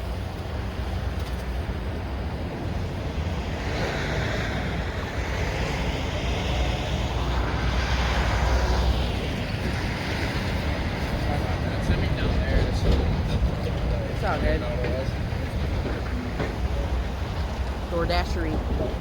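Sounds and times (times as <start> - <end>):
low engine and wind rumble: 0.0 - 19.0.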